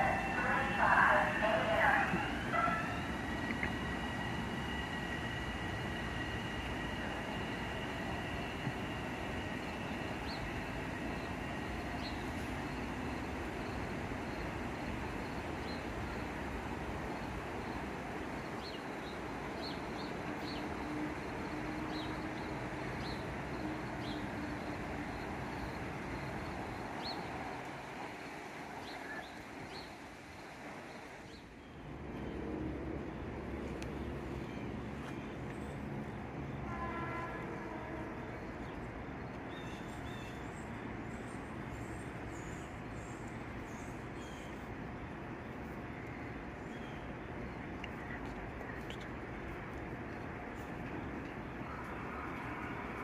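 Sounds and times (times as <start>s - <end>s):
electric train rumbling: 0.0s - 53.0s
train low hum: 0.0s - 53.0s.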